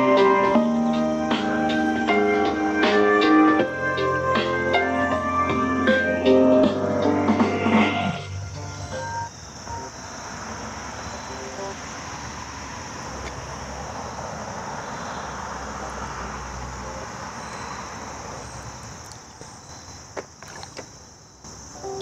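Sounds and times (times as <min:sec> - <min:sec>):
high-pitched insect drone: 0:00.0 - 0:19.0, 0:21.4 - 0:22.0.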